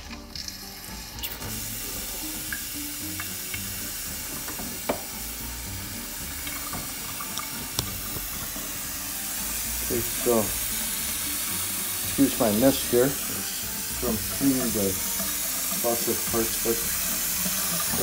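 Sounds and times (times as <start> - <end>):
water running from a faucet into a sink: 0.0 - 18.0.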